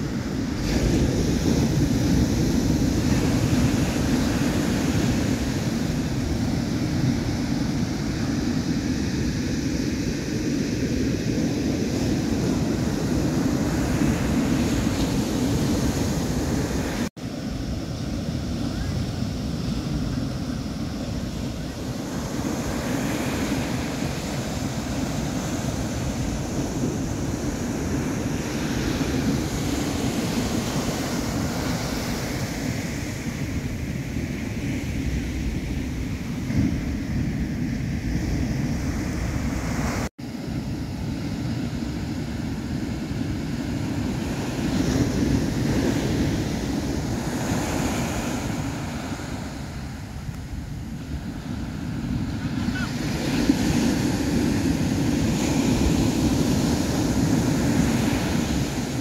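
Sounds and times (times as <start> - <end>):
ocean surf breaking on beach: 0.0 - 59.0
wind buffeting microphone: 0.0 - 59.0.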